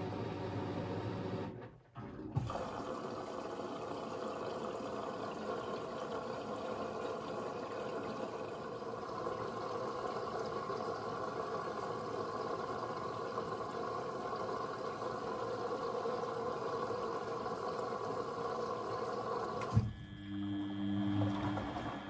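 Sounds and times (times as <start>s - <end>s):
water rushing through washing machine: 0.0s - 22.0s.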